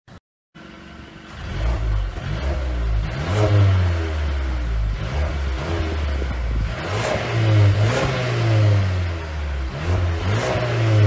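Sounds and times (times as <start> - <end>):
car engine revving: 1.2 - 11.0.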